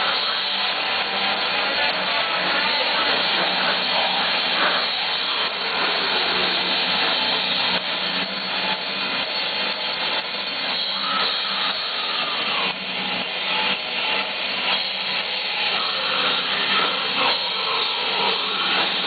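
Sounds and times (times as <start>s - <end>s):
drums: 0.0s - 19.0s
electric guitars: 0.0s - 19.0s.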